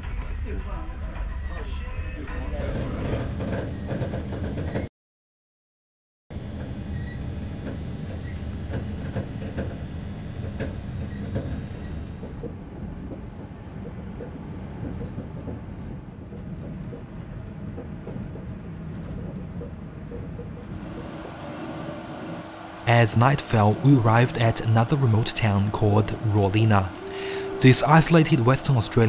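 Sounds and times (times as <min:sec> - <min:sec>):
train wheels rumbling on rail: 0:02.5 - 0:04.9, 0:06.3 - 0:29.0.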